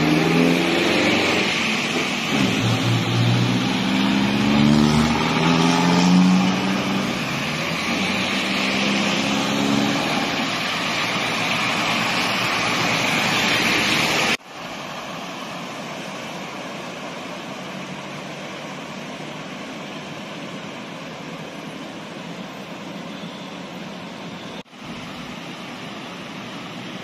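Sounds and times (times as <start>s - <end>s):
tyres spraying water: 0.0s - 23.0s
car engines humming: 0.0s - 27.0s.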